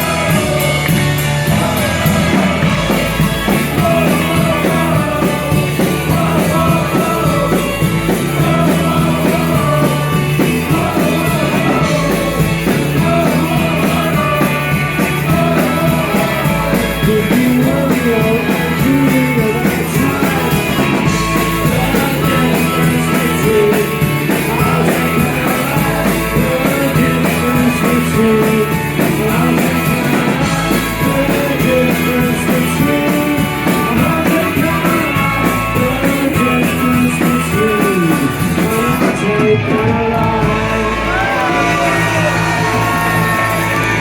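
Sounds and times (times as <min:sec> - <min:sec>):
electric guitars: 0:00.0 - 0:44.0
rock band playing loudly: 0:00.0 - 0:44.0.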